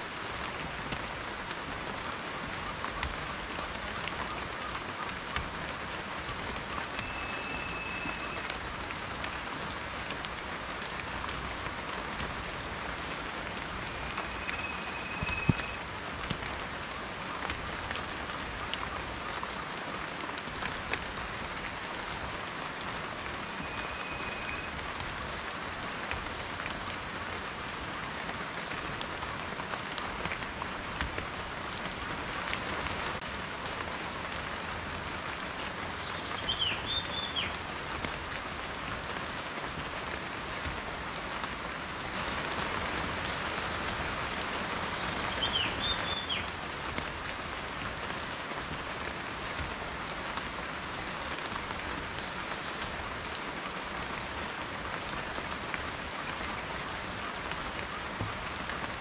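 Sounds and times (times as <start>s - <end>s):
raindrops ticking on a surface: 0.0s - 59.0s
steady rain: 0.0s - 59.0s.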